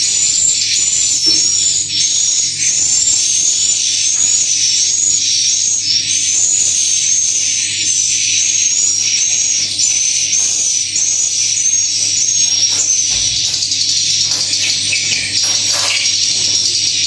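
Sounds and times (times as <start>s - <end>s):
birds twittering: 0.0s - 17.0s.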